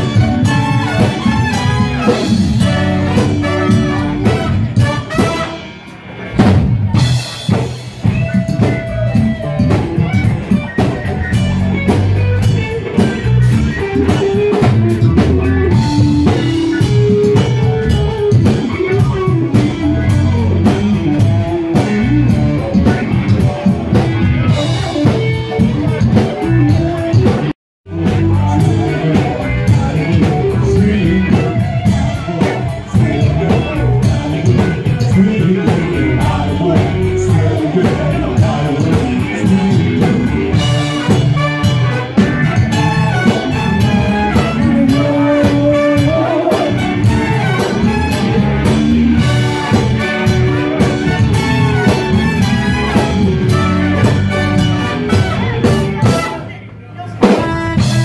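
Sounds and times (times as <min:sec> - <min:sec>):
electric guitar: 0:00.0 - 0:56.6, 0:57.2 - 0:58.0
drum kit: 0:00.0 - 0:58.0
live band playing dance music: 0:00.0 - 0:58.0.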